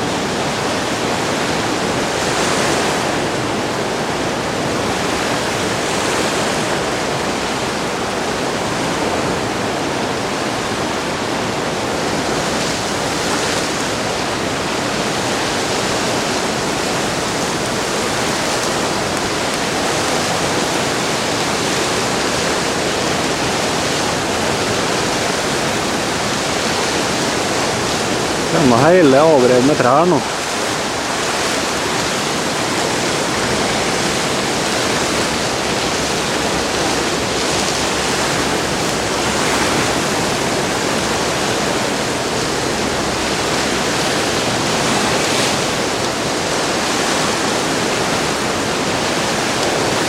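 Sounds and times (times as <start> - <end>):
river in flood rushing: 0.0 - 50.0.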